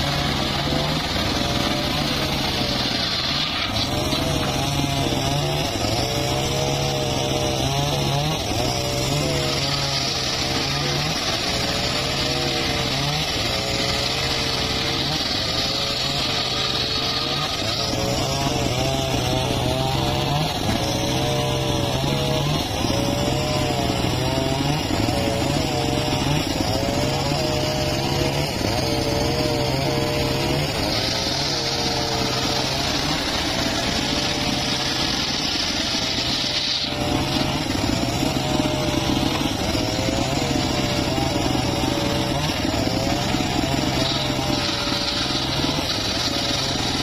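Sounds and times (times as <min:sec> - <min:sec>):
circular saw cutting wood: 0:00.0 - 0:47.0.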